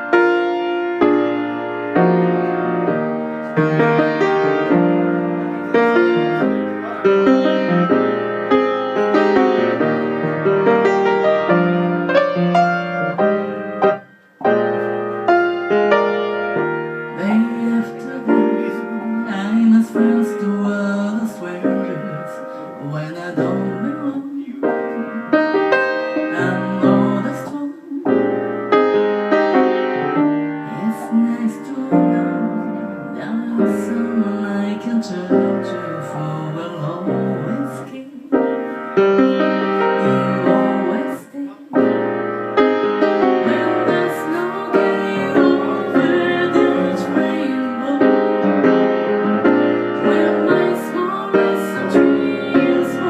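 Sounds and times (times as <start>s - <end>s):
piano playing sustained chords: 0.0s - 27.4s, 28.1s - 53.0s.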